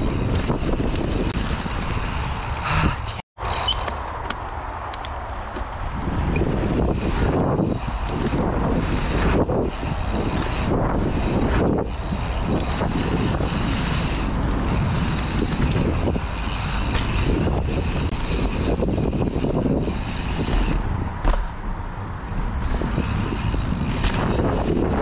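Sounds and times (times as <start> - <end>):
wind buffeting microphone: 0.0 - 3.2, 4.4 - 25.0
bike tyres rolling on dirt: 0.0 - 25.0.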